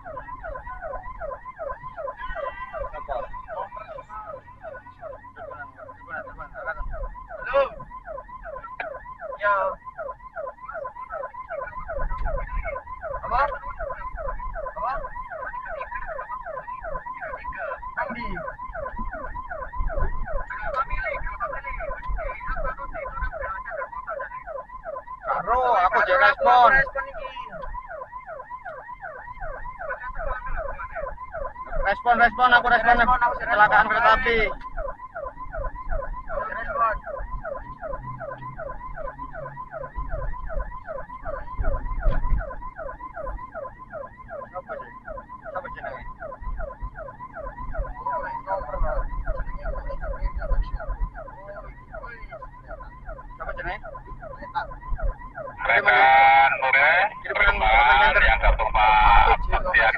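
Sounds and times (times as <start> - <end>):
ambulance siren yelping: 0.0 - 59.9
loud burst of another siren tone: 0.0 - 59.9.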